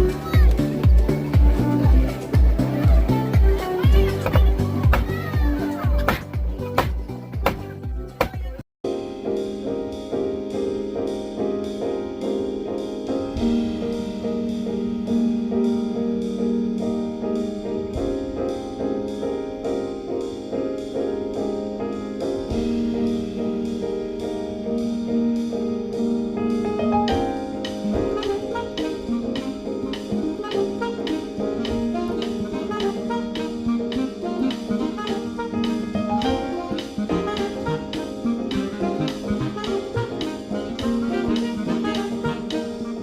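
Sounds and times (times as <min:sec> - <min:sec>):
keyboard background music: 0:00.0 - 0:43.0.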